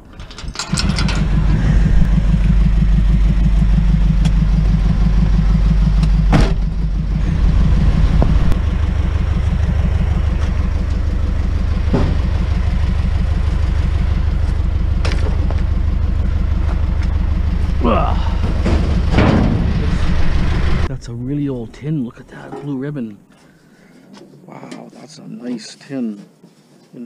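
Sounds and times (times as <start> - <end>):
truck engine running: 0.0 - 22.4.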